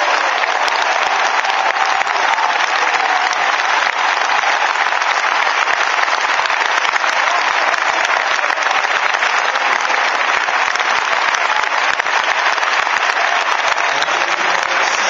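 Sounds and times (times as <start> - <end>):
stadium crowd applauding: 0.0 - 15.0.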